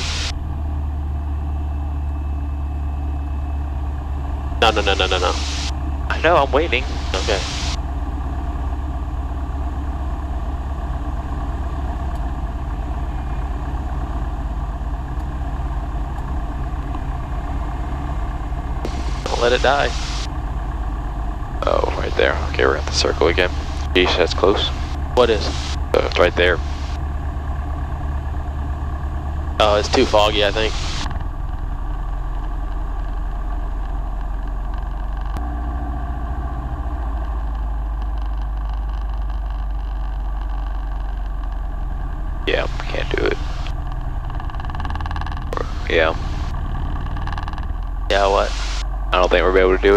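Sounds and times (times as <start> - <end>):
airplane piston engine droning: 0.0 - 49.9.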